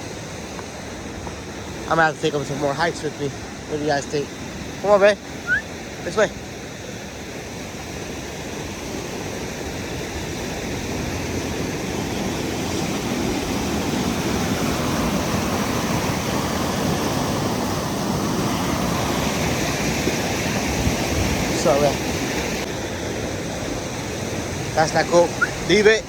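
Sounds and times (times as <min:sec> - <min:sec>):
rushing creek water: 0:00.0 - 0:26.0.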